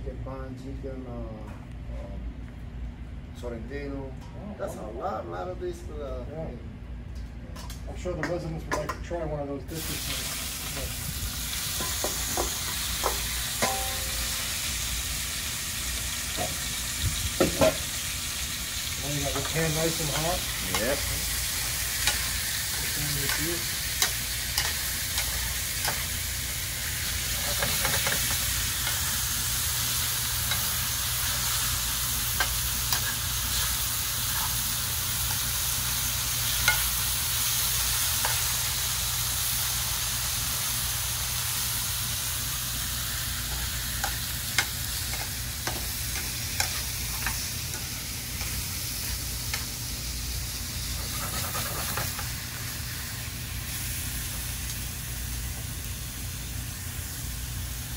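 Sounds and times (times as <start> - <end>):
steak sizzling in a skillet: 9.8 - 57.9.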